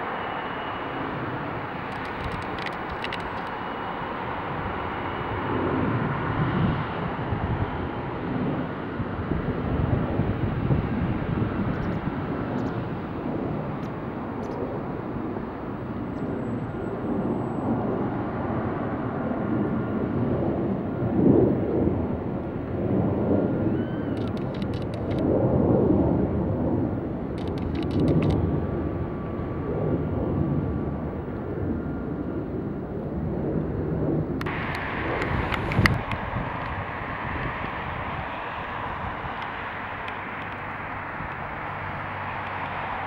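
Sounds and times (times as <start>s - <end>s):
jet engine rumble: 0.0s - 43.0s.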